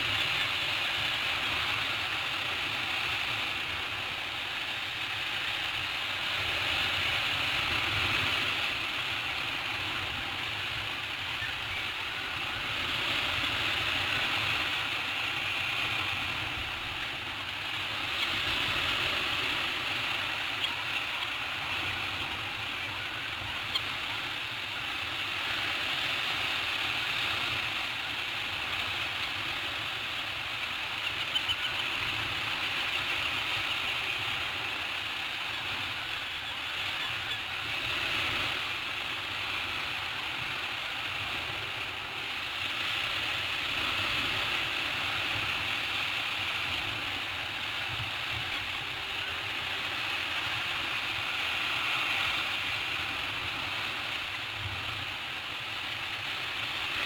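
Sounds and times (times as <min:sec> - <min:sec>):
sea surf: 0:00.0 - 0:57.0.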